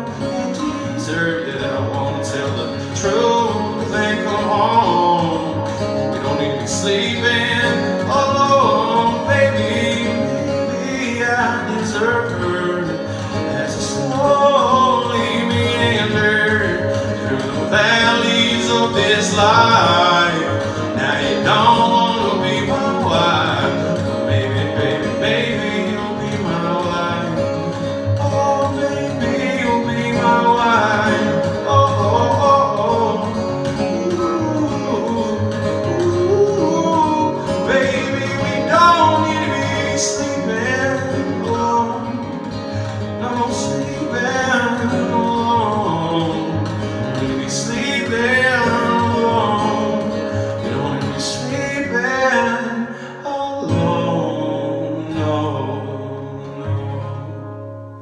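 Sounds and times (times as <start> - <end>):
acoustic guitar strumming: 0.0 - 58.0
man singing: 0.0 - 58.0.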